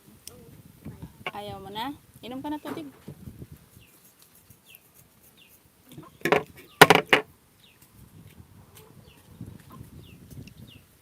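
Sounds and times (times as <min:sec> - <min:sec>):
birds chirping faintly: 0:00.3 - 0:11.0.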